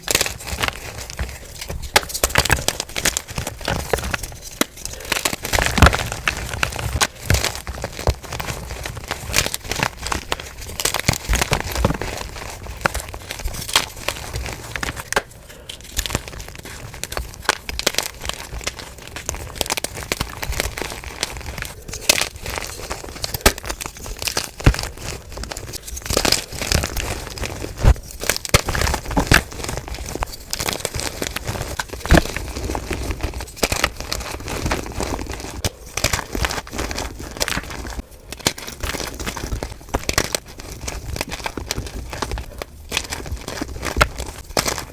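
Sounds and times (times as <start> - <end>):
chalk blocks crunching: 0.0 - 44.9.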